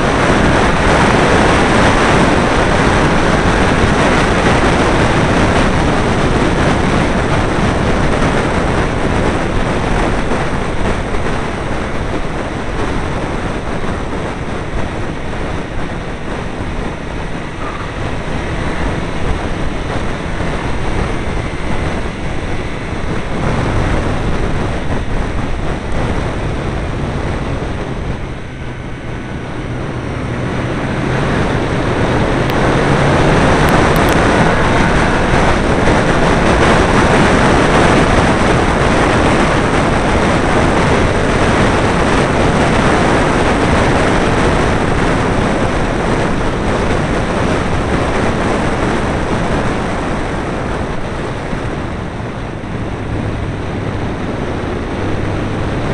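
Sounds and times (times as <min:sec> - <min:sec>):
car engine running: 0:00.0 - 0:55.9
wind buffeting microphone: 0:00.0 - 0:55.9.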